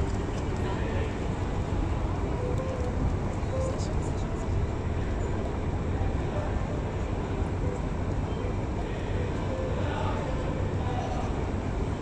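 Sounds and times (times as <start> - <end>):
low harbour rumble: 0.0 - 12.0.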